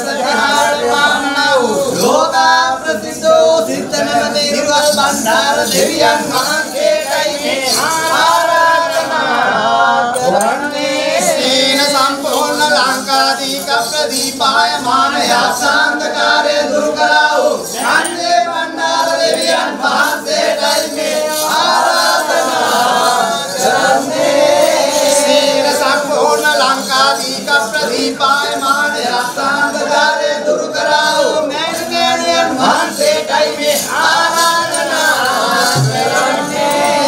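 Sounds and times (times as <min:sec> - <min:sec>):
men singing ritual verses: 0:00.0 - 0:37.0.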